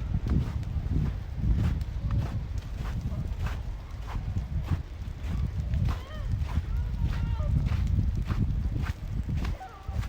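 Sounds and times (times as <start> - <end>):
low rumble: 0.0 - 9.6
footsteps in snow: 0.0 - 10.0.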